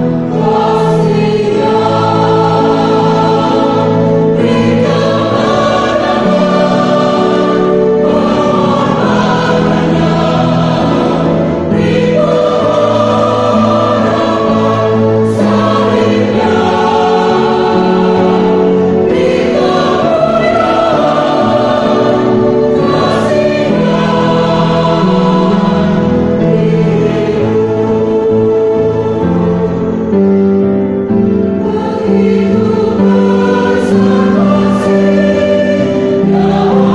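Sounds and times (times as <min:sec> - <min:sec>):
choir singing a hymn: 0:00.0 - 0:36.9.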